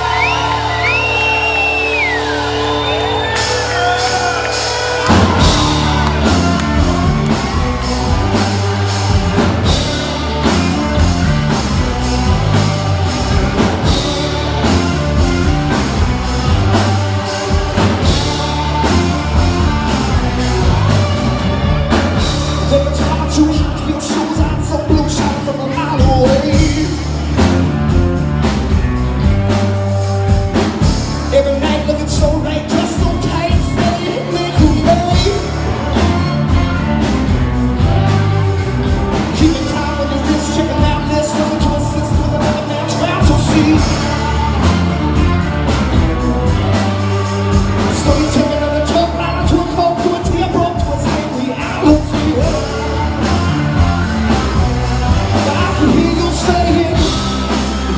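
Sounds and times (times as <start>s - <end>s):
drum beat: 0.0s - 31.5s, 32.1s - 57.9s
heavy bass: 0.0s - 57.9s
live rock band playing: 0.0s - 57.9s
person singing: 3.4s - 27.6s, 31.2s - 37.0s, 37.8s - 57.9s.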